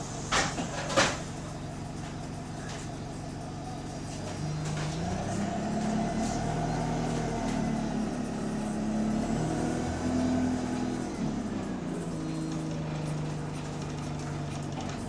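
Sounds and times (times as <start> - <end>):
bus engine shifting gears: 0.0 - 15.0.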